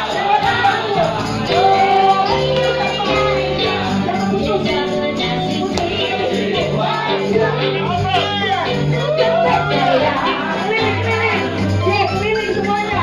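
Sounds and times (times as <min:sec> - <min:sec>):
worship song singing with accompaniment: 0:00.0 - 0:13.0.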